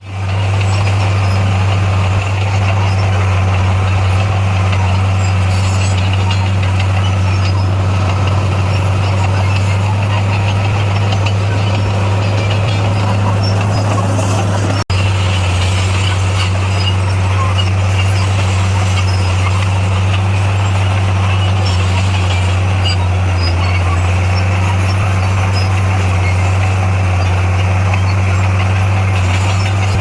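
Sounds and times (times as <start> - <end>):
bulldozer diesel engine droning: 0.0 - 30.0.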